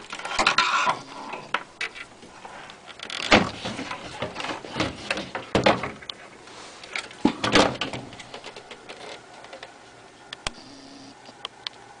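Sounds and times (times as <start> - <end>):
plastic and metal parts scraping: 0.0 - 9.8.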